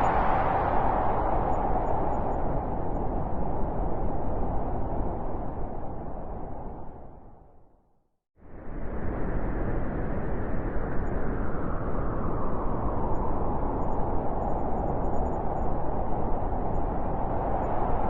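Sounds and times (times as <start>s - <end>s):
howling blizzard wind: 0.0s - 7.7s, 8.4s - 18.0s.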